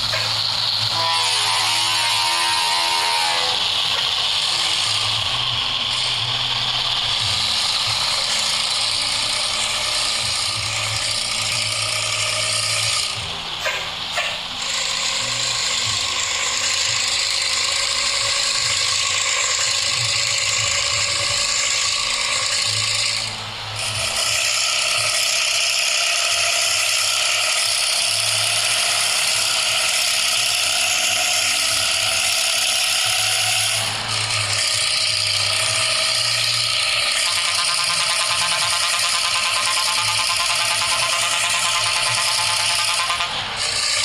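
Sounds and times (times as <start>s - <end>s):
rough rattling diesel truck engine: 0.0s - 44.0s.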